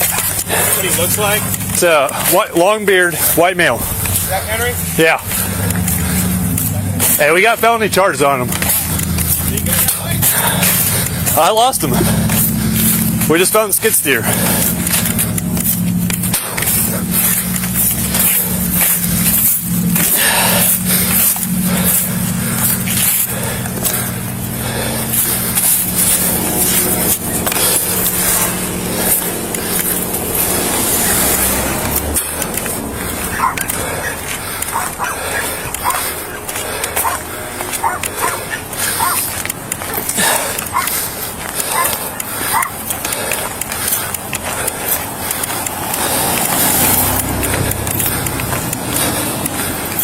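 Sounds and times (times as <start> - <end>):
vehicle engine running: 0.0 - 50.0.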